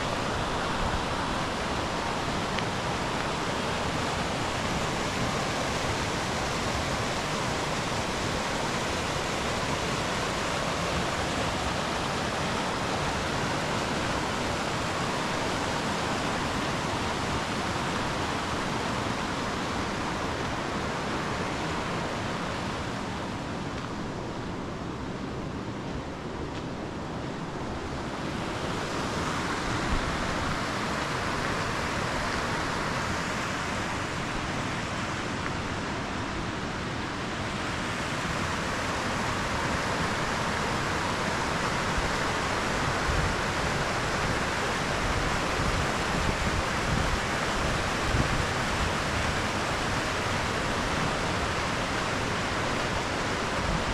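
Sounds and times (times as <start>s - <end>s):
mountain stream rushing: 0.0s - 53.9s.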